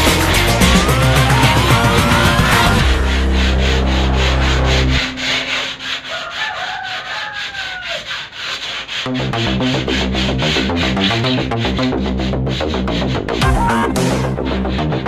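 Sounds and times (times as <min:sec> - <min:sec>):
background music: 0:00.0 - 0:06.2, 0:09.1 - 0:15.0
wooden door being scrubbed: 0:00.0 - 0:15.0.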